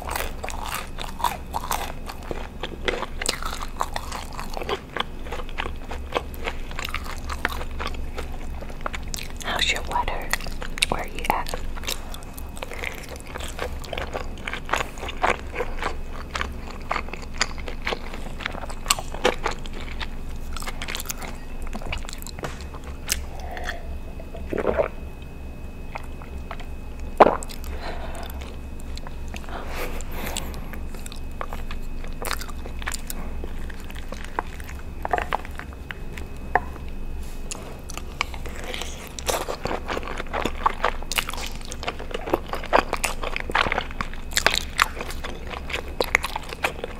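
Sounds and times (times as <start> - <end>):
wet chewing and lip smacks: 0.0 - 29.6, 30.3 - 46.9.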